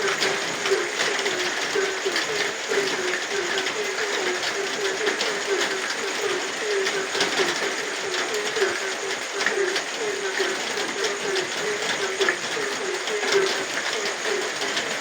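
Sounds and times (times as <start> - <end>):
frogs croaking: 0.0 - 15.0
rain hissing: 0.0 - 15.0.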